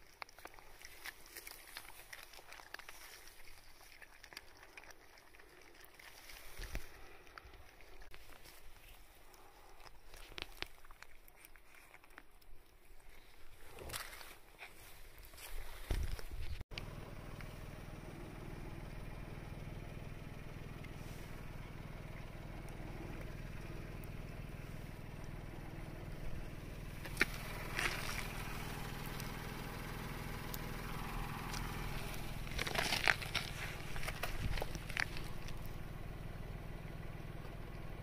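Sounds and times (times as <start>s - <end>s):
low mechanical hum: 0.0s - 38.0s.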